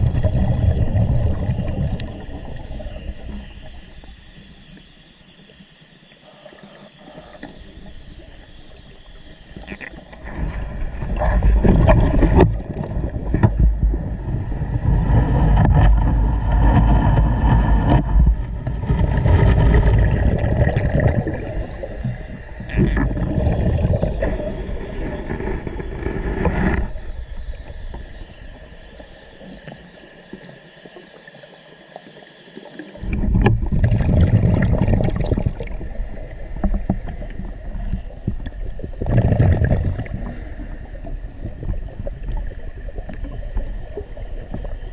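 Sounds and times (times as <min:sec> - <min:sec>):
underwater breathing bubbles gurgling: 0:00.0 - 0:04.8, 0:06.5 - 0:29.7, 0:32.7 - 0:44.9.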